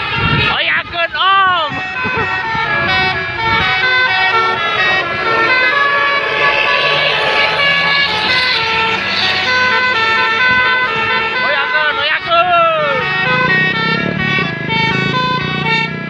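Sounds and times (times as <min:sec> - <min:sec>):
bus horn playing melody: 0:00.0 - 0:00.5, 0:01.7 - 0:16.0.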